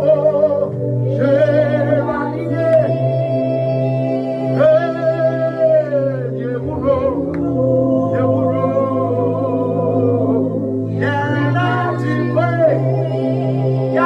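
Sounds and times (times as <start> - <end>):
sustained keyboard accompaniment: 0.0 - 14.0
worship singing: 0.0 - 14.0.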